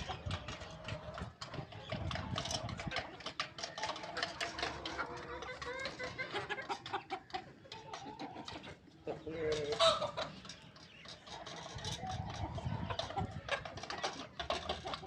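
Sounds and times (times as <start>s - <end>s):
chicks cheeping: 0.0s - 15.0s
hens clucking: 0.0s - 15.0s.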